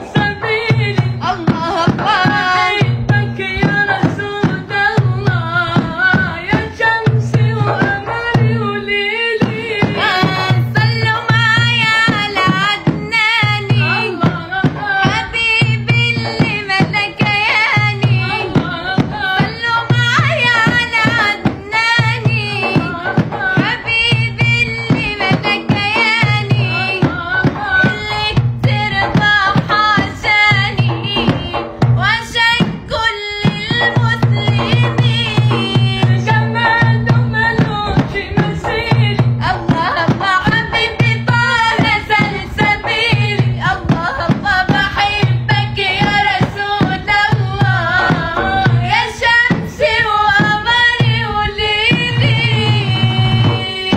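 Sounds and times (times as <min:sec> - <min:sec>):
low drumbeat: 0:00.0 - 0:53.9
woman singing devotional song: 0:00.0 - 0:53.9.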